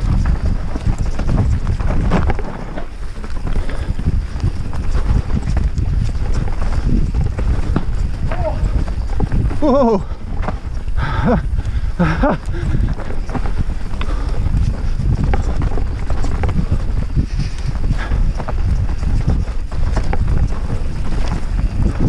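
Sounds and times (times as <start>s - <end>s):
bike clattering and rattling: 0.0s - 22.0s
bike tyres rumbling on trail: 0.0s - 22.0s.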